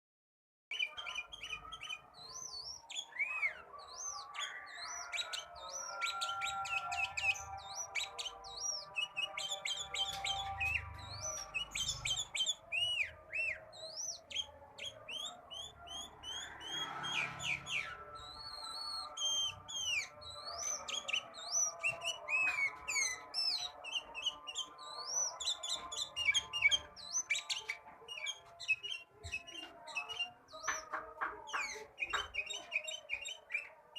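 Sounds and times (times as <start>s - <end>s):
songbird singing: 0.7s - 33.9s.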